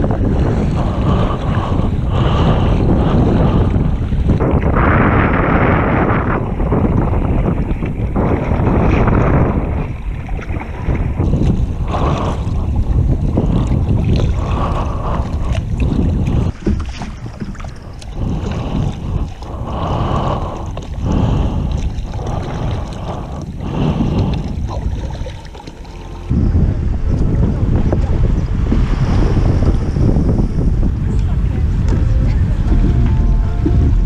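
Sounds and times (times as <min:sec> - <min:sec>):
water splashing around kayak: 0:00.0 - 0:34.0
wind buffeting microphone: 0:00.0 - 0:34.0.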